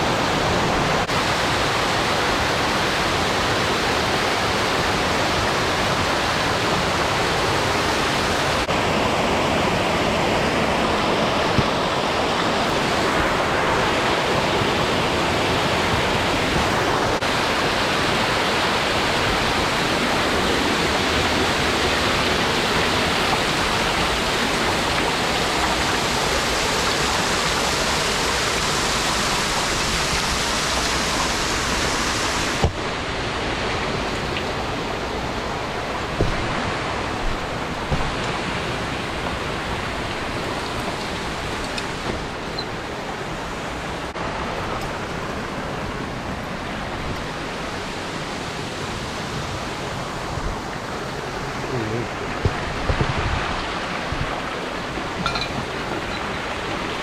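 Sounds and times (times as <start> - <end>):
rushing mountain water: 0.0 - 57.0.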